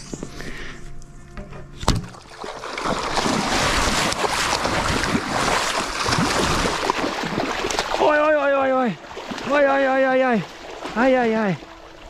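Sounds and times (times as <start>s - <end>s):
splashing water: 1.8s - 12.0s.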